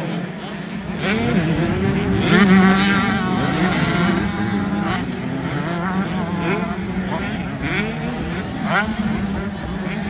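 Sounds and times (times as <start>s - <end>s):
motocross bikes revving: 0.0s - 10.0s.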